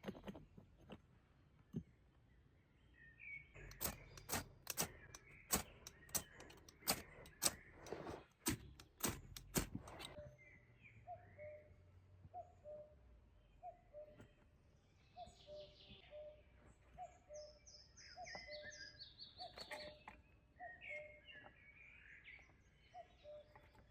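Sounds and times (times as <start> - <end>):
birds chirping faintly: 0.0 - 23.9.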